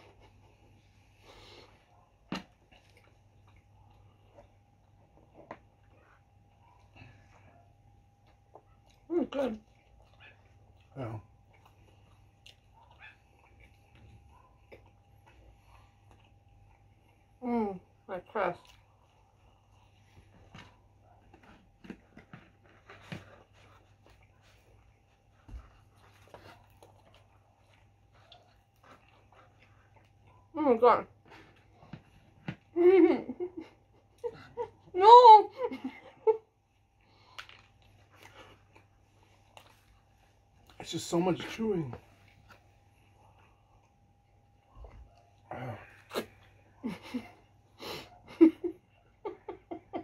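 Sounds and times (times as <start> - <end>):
soft chewing: 0.0 - 35.0, 35.6 - 50.0.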